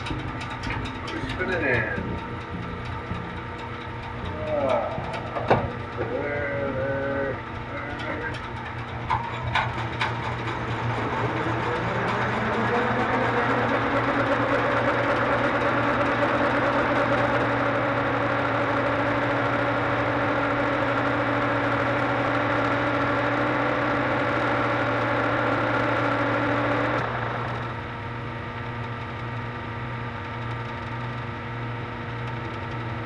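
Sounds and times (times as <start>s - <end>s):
lathe higher tones: 0.0s - 27.8s
metal lathe humming: 0.0s - 27.9s.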